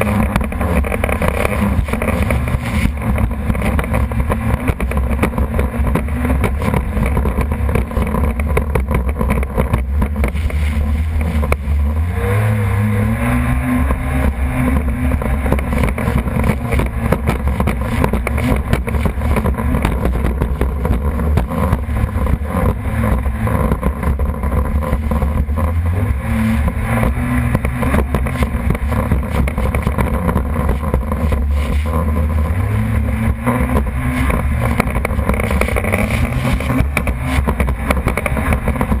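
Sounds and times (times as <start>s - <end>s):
jet ski engine revving: 0.0s - 39.0s.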